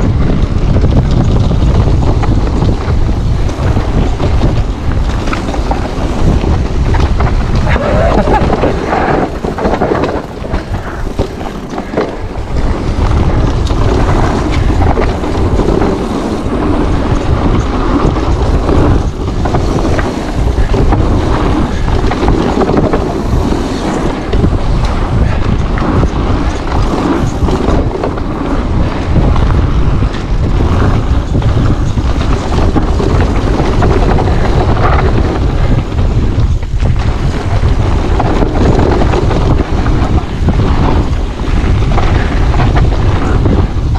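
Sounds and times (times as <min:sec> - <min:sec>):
low rumble of bike on trail: 0:00.0 - 0:43.9
wind buffeting microphone: 0:00.0 - 0:43.9.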